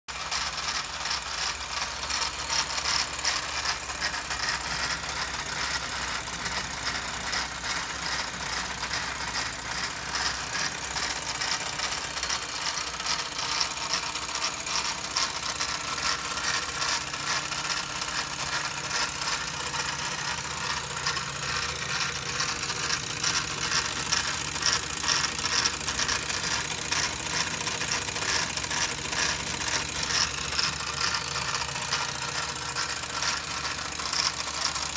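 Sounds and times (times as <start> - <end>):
steam engine metallic clatter: 0.1 - 34.9.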